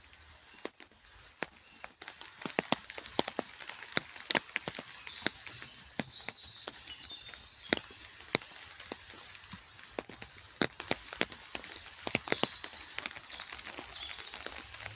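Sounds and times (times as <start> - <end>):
rain drops tapping: 0.0 - 14.9.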